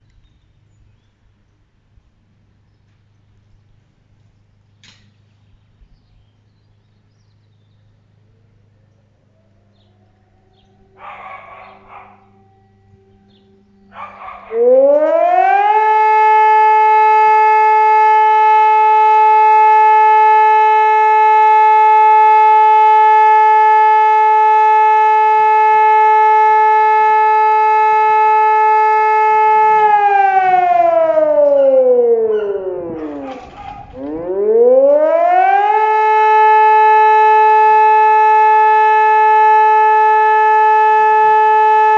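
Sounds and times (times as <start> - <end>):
civil defence siren: 5.8 - 41.9.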